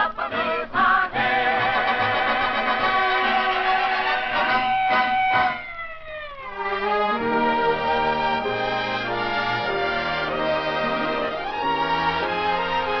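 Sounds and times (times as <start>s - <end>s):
orchestra playing chords: 1.6s - 5.7s, 6.5s - 13.0s.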